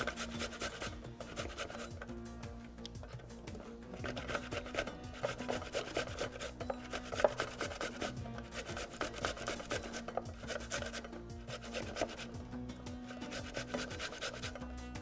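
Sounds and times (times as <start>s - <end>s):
tomato rasping on metal grater: 0.0s - 15.0s.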